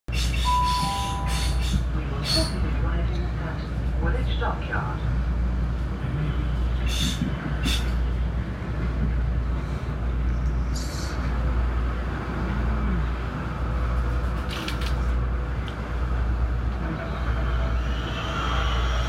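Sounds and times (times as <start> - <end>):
train wheels rumbling on track: 0.1 - 19.0.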